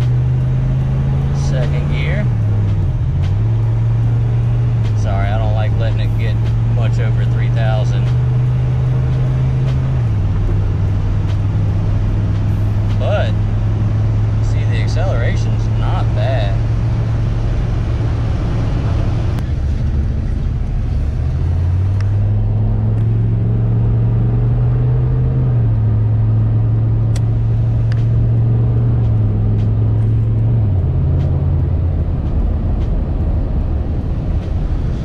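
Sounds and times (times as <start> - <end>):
diesel engine accelerating: 0.0 - 35.0.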